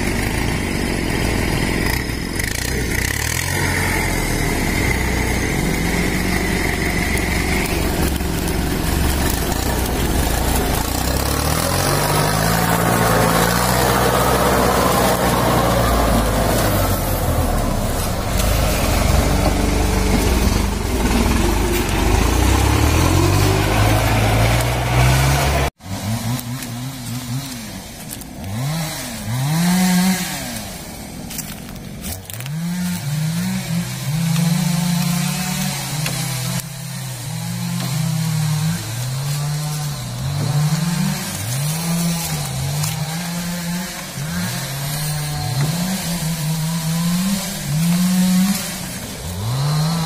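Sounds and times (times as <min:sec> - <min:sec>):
engine revving: 0:00.0 - 0:50.0
tractor diesel engine running: 0:00.0 - 0:50.0.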